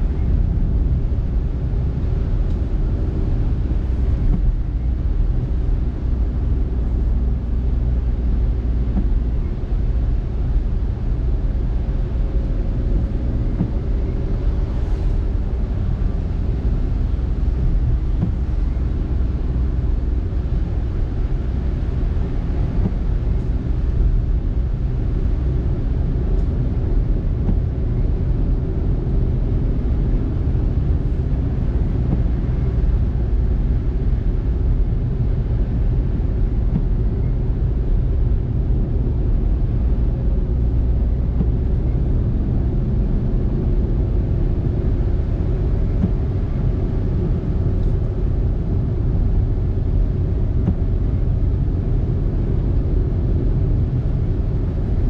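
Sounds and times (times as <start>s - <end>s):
car road and engine drone: 0.0s - 55.0s.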